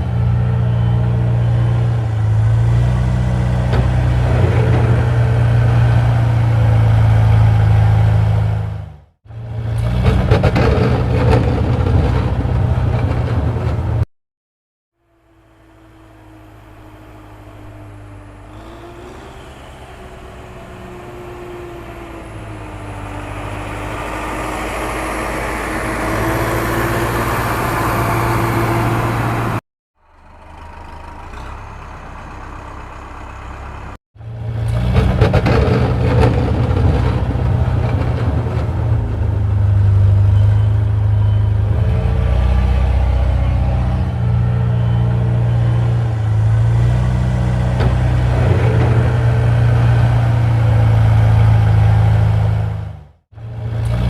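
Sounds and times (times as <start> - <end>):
vehicle motor running: 0.0 - 14.0, 15.1 - 54.0.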